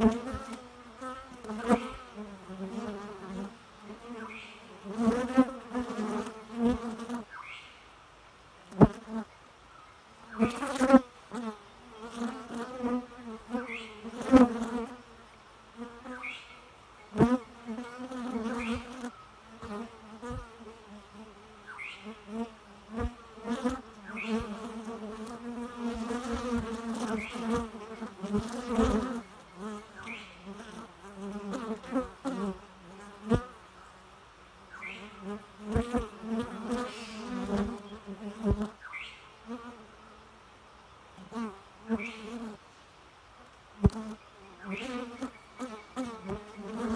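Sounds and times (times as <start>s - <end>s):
bees buzzing: 0.0s - 7.3s, 10.2s - 33.7s, 34.7s - 40.2s, 43.8s - 46.9s.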